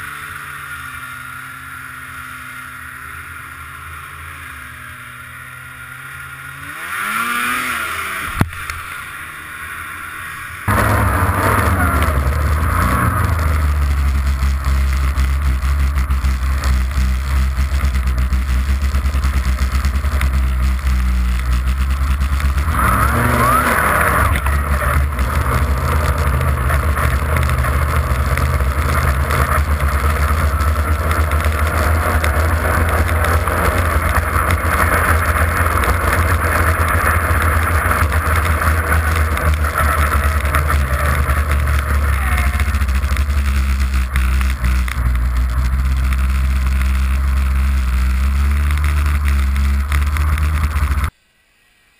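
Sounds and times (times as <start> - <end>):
snowmobile engine running: 0.0 - 51.1.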